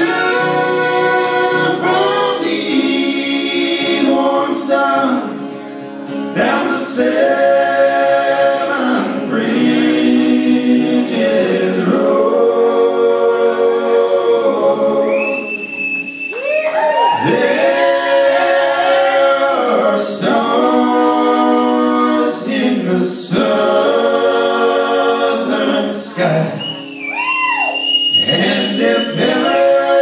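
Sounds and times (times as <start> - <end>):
men singing in harmony: 0.0 - 5.4, 6.3 - 15.6, 17.2 - 26.8, 28.1 - 30.0.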